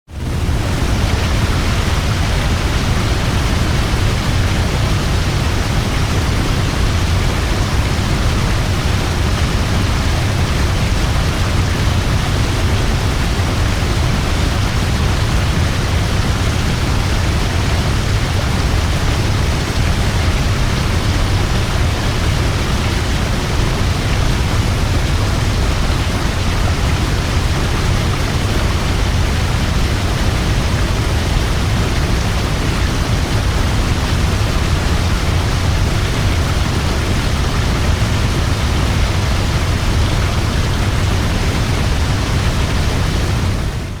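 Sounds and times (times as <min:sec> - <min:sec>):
waterfall rushing: 0:00.1 - 0:44.0.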